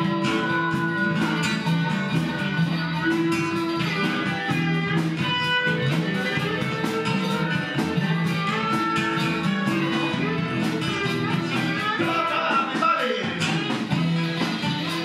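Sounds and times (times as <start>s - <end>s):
low bass notes: 0.0s - 12.4s
electric guitar blues: 0.0s - 15.0s
steady drum beat: 0.0s - 15.0s.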